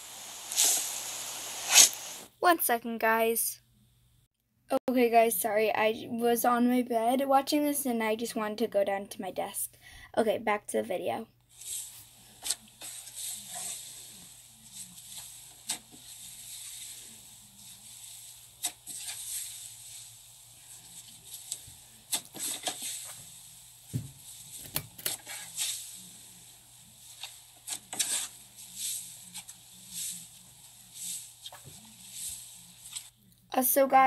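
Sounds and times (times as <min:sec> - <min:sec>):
faint steady hiss: 0:00.0 - 0:04.3, 0:05.0 - 0:34.0.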